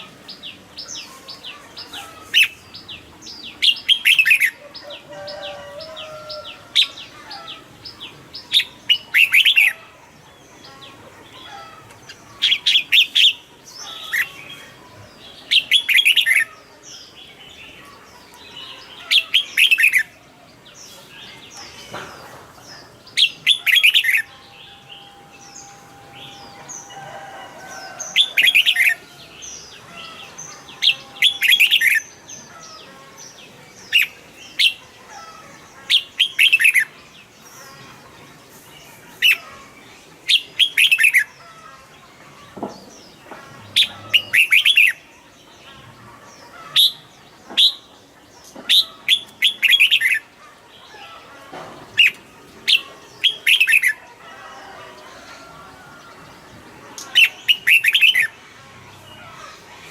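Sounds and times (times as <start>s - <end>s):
bird singing loud phrases: 0.0s - 59.9s.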